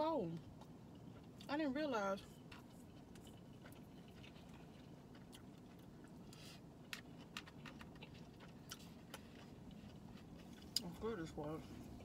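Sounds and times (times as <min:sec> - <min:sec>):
low steady hum: 0:00.0 - 0:12.0
chewing: 0:02.2 - 0:12.0.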